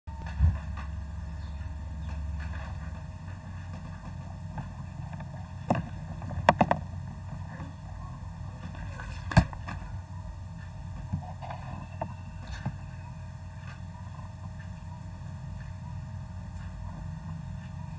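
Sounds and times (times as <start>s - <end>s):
steady low hum: 0.1s - 17.9s.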